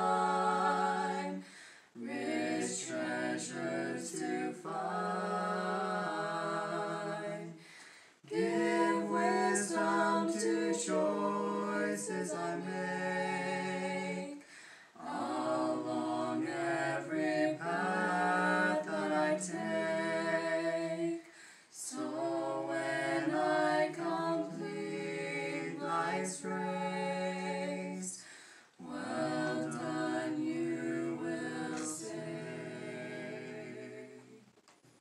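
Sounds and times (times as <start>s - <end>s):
group singing a hymn a cappella: 0.0s - 34.6s.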